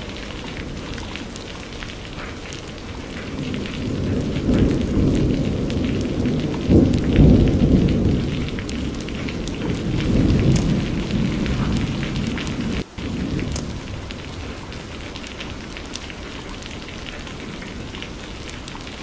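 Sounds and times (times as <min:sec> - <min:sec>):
low thunder rumble: 0:00.0 - 0:19.0
steady rain: 0:00.0 - 0:19.0.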